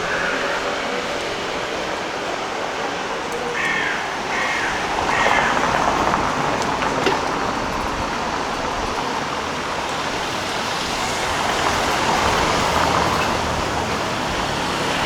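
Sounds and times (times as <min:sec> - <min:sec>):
passing cars and road noise: 0:00.0 - 0:15.0.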